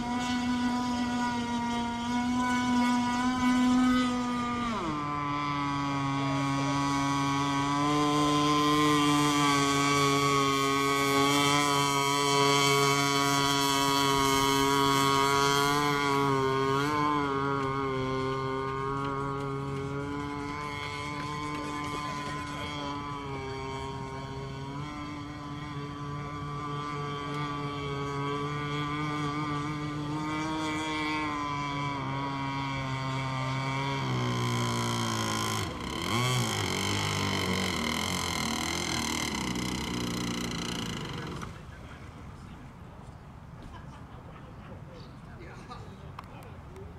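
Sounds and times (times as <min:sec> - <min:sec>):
toy boat motor droning: 0:00.0 - 0:43.5.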